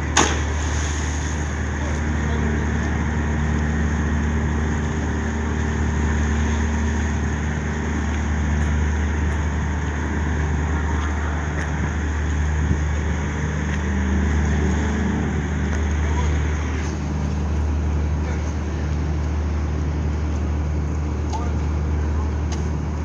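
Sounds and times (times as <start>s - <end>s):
large engine humming: 0.0s - 23.0s
outdoor background rumble: 0.0s - 23.0s.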